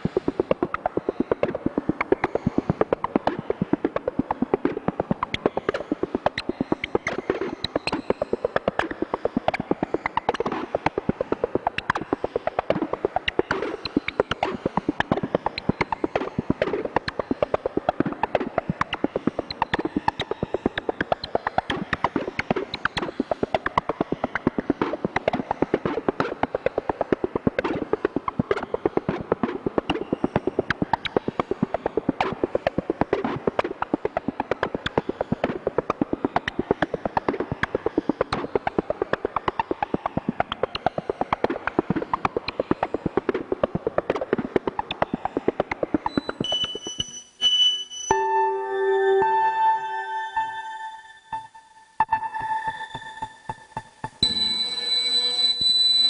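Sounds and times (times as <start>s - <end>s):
synthesizer clicks and blips: 0.0s - 56.0s.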